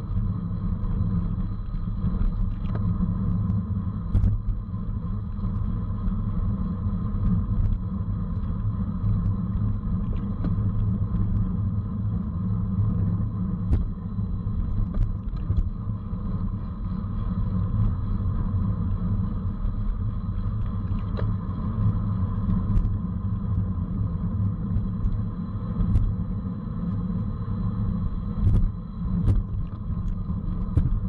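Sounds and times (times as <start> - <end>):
road rumble: 0.0 - 31.0
wind on microphone: 0.0 - 31.0.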